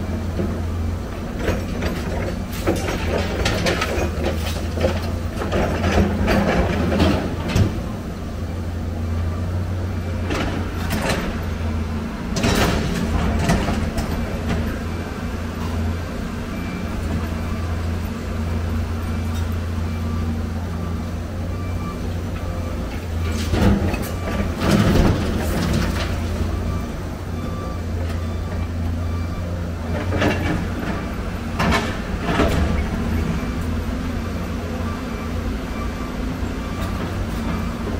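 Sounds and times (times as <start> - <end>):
excavator diesel engine droning: 0.0 - 37.9.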